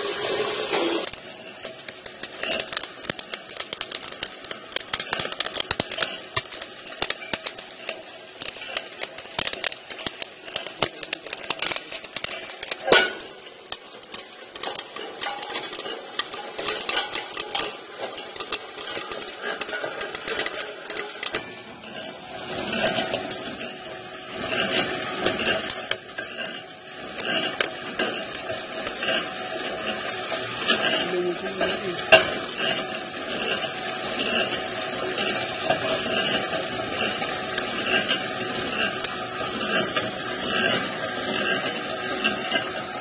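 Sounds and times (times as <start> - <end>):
popcorn popping in metal kettle: 0.0 - 43.0.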